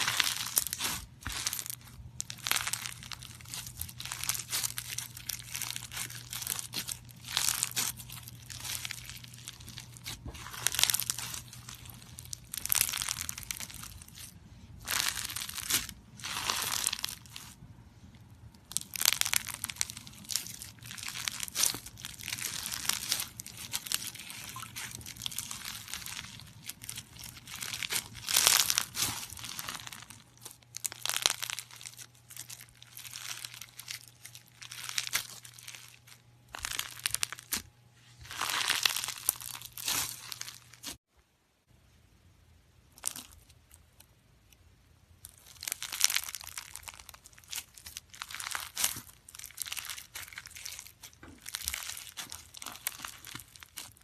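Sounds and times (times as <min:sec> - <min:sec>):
slime squeezed crackling: 0:00.0 - 0:41.0, 0:42.9 - 0:44.2, 0:45.2 - 0:54.0.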